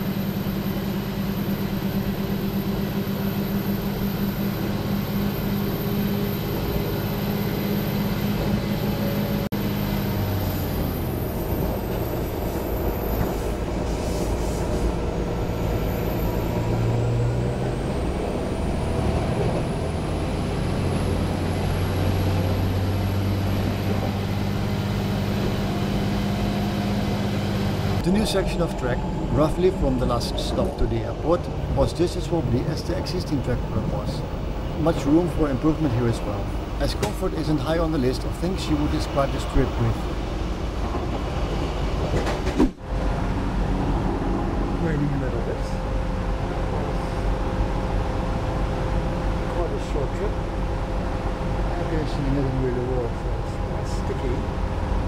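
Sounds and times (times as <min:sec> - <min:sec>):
diesel train engine drone: 0:00.0 - 0:55.0
rail and wheel noise: 0:00.0 - 0:55.0.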